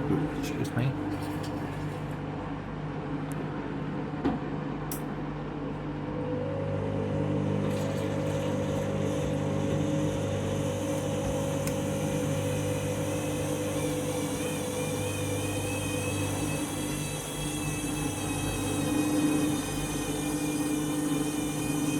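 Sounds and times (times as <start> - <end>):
washing machine motor hum: 0.0 - 21.9.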